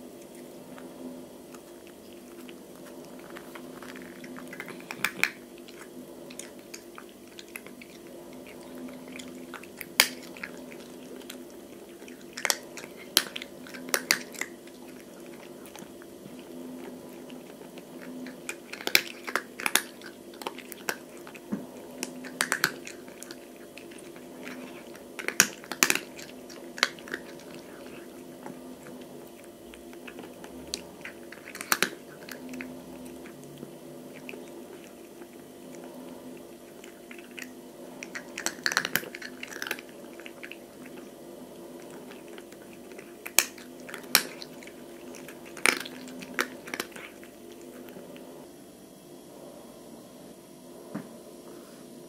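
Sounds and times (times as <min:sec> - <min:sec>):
cat crunching dry kibble: 0:00.0 - 0:48.4
steady low hum: 0:00.0 - 0:52.0.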